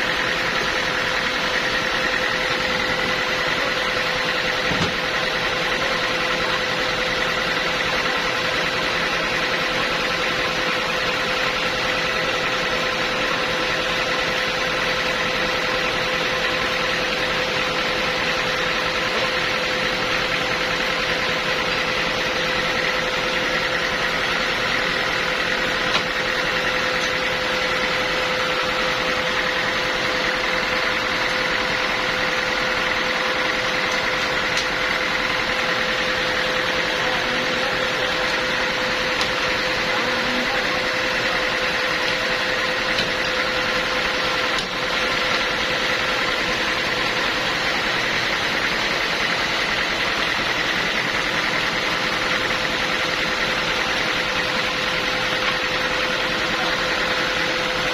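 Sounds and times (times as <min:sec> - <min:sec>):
sawmill machine drone: 0:00.0 - 0:57.9.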